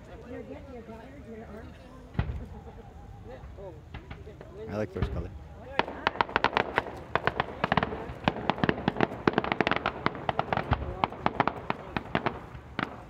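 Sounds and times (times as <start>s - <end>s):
fireworks popping and crackling: 1.6s - 13.0s.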